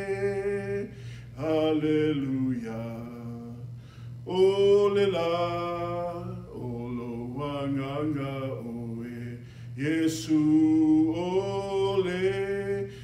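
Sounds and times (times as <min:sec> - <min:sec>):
man singing a hymn: 0:00.0 - 0:13.0.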